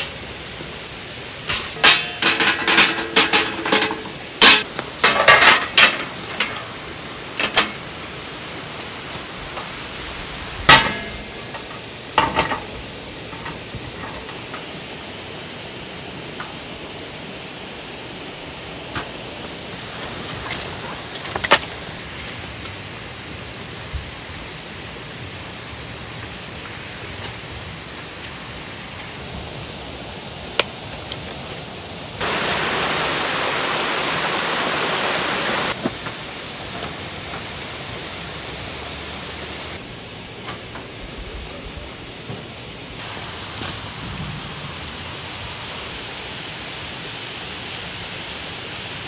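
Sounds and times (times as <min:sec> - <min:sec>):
outdoor background hiss: 0:00.0 - 0:49.0.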